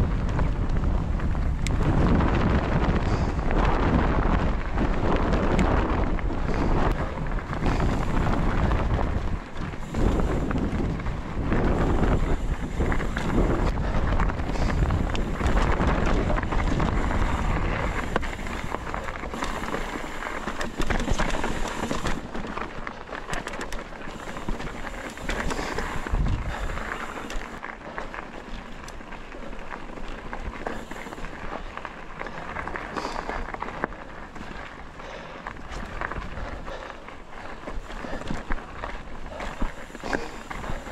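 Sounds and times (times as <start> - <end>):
bike rattling and knocking: 0.0 - 40.9
bike tyres crunching on gravel: 0.0 - 40.9
wind buffeting microphone: 0.0 - 40.9.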